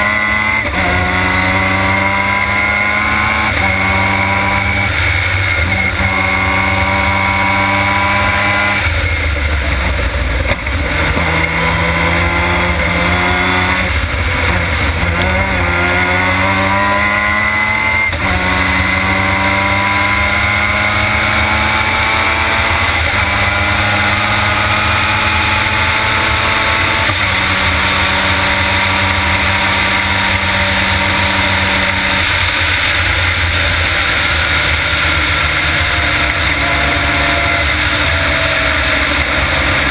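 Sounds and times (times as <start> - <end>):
race car engine at speed: 0.0 - 39.9
road rumble: 0.0 - 39.9.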